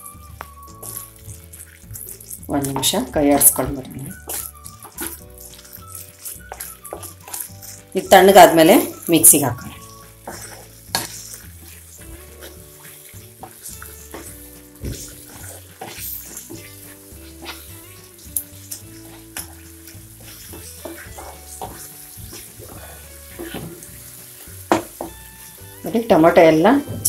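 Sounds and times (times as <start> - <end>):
spatula scraping a pan: 0.0 - 26.0
soft sizzle of simmering: 0.0 - 27.0.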